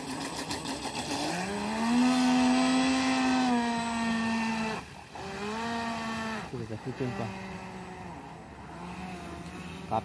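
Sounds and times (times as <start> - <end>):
electric motor high whine: 0.6 - 9.9.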